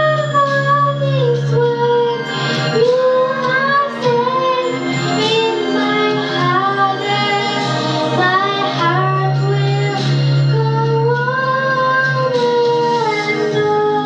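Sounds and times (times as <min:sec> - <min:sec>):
girl singing into microphone: 0:00.0 - 0:14.0
instrumental accompaniment: 0:00.0 - 0:14.0.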